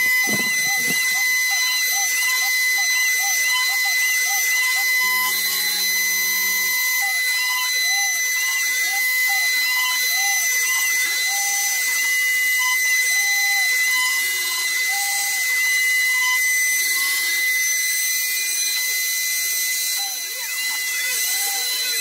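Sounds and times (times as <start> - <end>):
motors with rising and falling tones: 0.0 - 22.0
router spindle whine and cutting hiss: 0.0 - 22.0.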